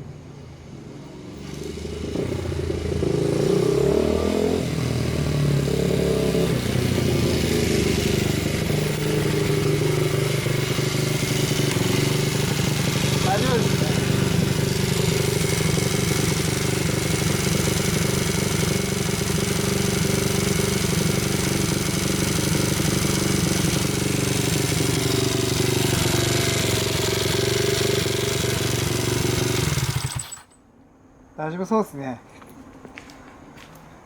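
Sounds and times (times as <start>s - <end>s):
small motorcycle engine running: 1.2s - 30.6s.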